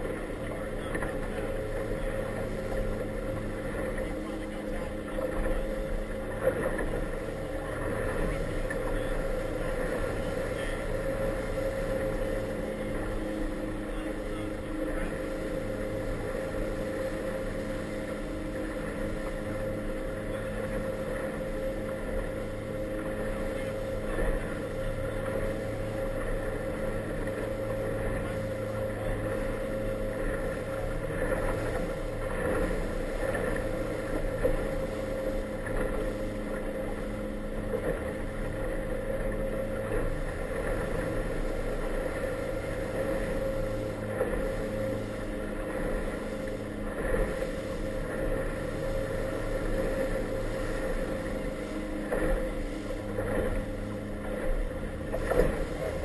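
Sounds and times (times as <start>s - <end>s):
choppy water around hull: 0.0s - 56.0s
motorboat engine humming: 0.0s - 56.0s.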